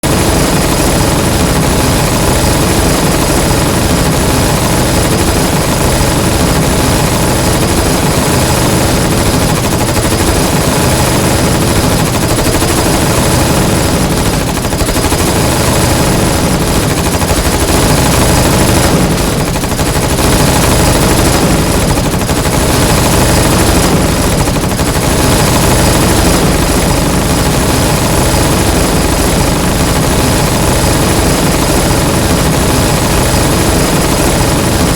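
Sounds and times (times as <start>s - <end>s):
rapid submachine gun fire: 0.0s - 34.9s.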